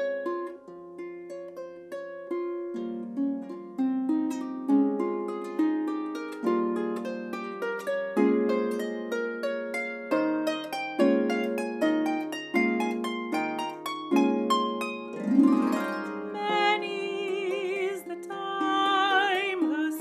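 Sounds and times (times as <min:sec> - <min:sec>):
harp melody: 0:00.0 - 0:20.0.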